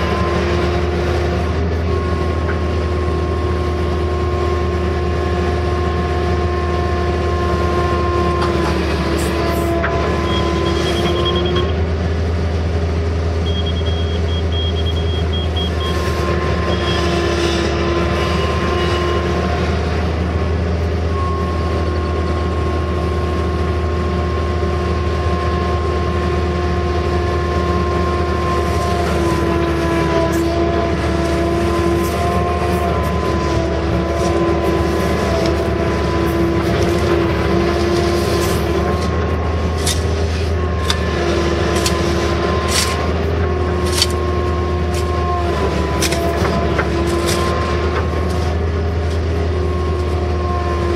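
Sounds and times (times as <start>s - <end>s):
excavator engine rumble: 0.0s - 50.9s
hydraulic whine: 0.0s - 50.9s.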